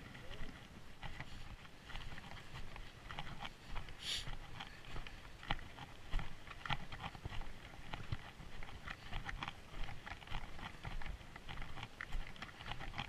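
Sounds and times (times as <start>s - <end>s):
footsteps crunching on snow: 0.0s - 13.0s.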